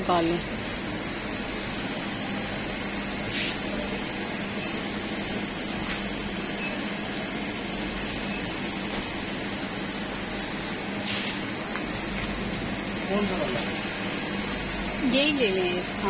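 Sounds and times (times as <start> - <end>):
shop background hum and hiss: 0.0 - 16.0.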